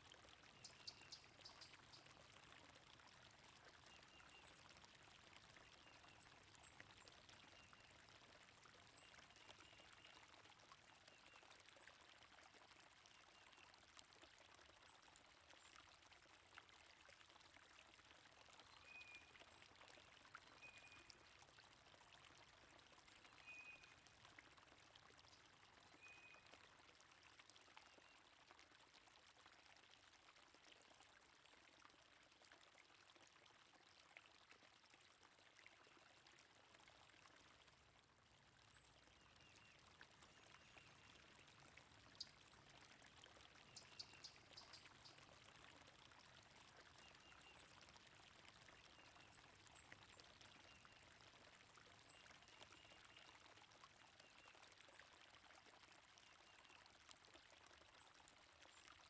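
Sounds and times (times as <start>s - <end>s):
flowing stream water: 0.0s - 59.0s.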